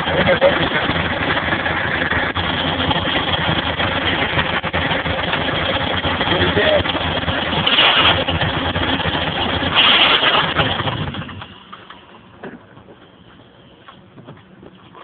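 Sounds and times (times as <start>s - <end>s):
gearbox grinding: 0.0s - 13.0s
car engine running: 0.0s - 15.0s.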